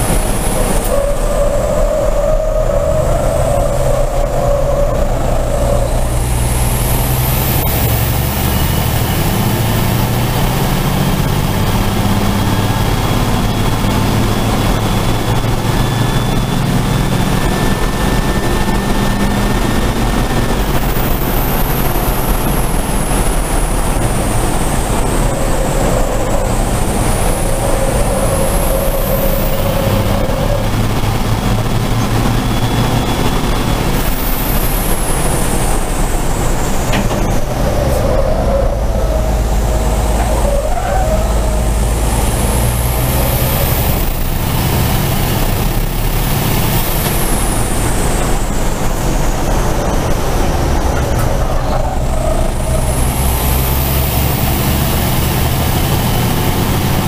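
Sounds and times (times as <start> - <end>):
road and wind noise: 0.0 - 57.0
truck diesel engine running hard: 0.0 - 57.0
turbo whine: 0.0 - 57.0.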